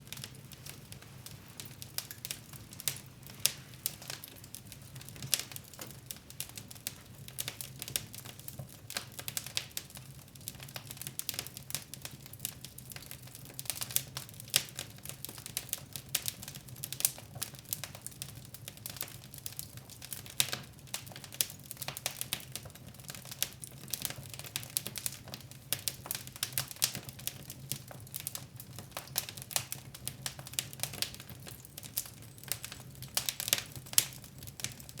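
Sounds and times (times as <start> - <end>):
fire crackling in a fireplace: 0.0 - 35.0.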